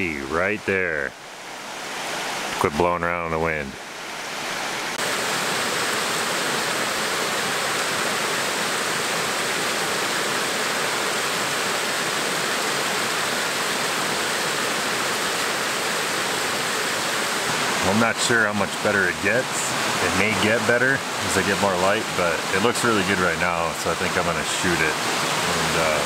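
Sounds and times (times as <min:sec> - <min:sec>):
water rushing over cascades: 0:00.0 - 0:26.0.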